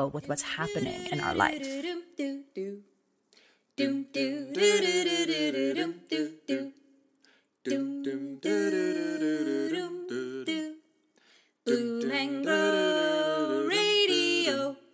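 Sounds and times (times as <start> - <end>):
wordless vocal melody: 0.0 - 14.9.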